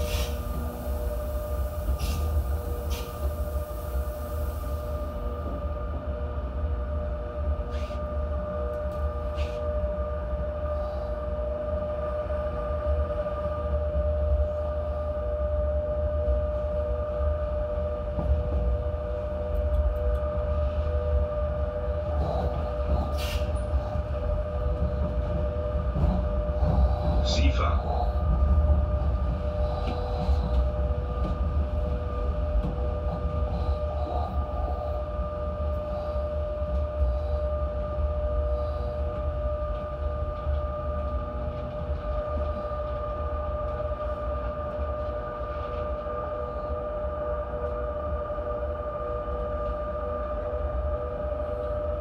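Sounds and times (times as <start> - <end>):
train low rumble: 0.0 - 52.0
train whine: 0.0 - 52.0.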